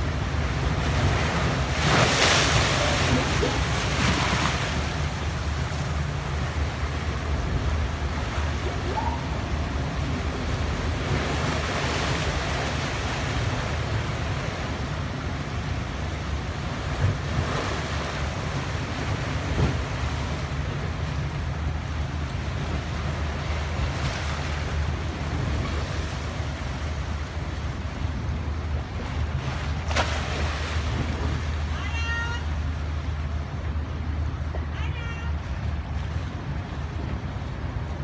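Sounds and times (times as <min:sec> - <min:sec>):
waves splashing against seawall: 0:00.0 - 0:38.0.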